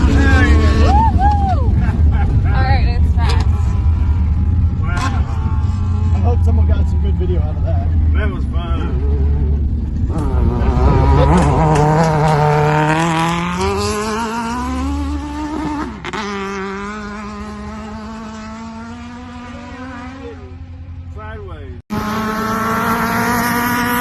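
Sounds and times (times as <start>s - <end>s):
racing engine accelerating: 0.0s - 21.0s, 21.9s - 24.0s.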